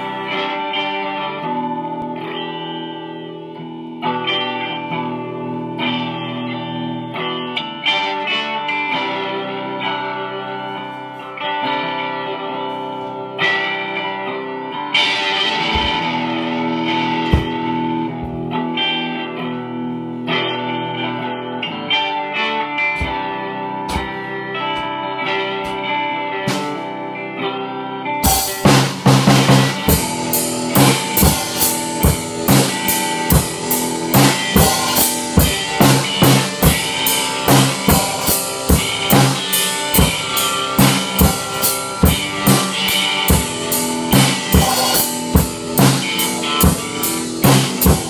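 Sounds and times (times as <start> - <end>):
guitar-led music: 0.0 - 48.0.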